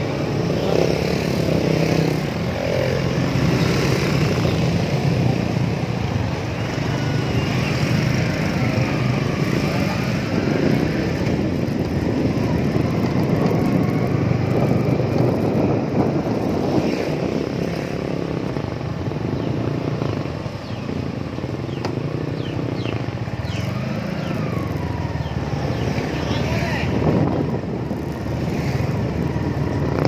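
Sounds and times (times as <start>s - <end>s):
wind buffeting microphone: 0.0s - 30.0s
motorcycle engine running: 0.3s - 26.3s.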